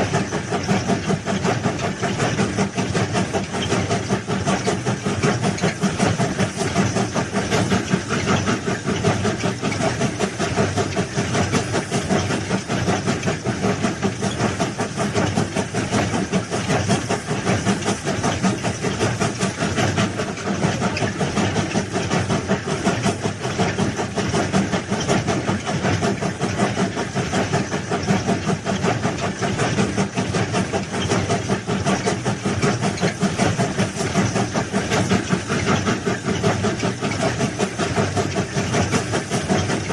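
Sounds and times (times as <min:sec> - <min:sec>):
heavy machinery engine with chatter: 0:00.0 - 0:39.9.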